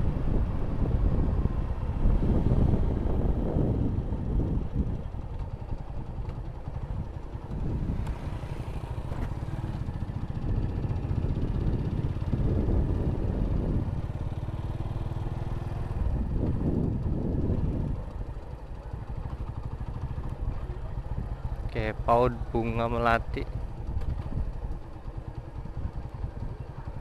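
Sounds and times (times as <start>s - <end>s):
motorcycle engine running: 0.0s - 27.0s
wind rumble on microphone: 0.0s - 27.0s.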